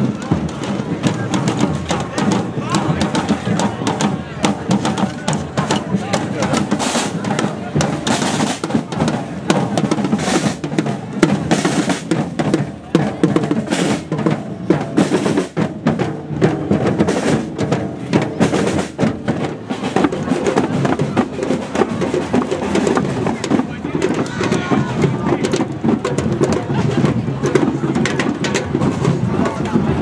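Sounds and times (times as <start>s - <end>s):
marching drum band playing: 0.0s - 30.0s.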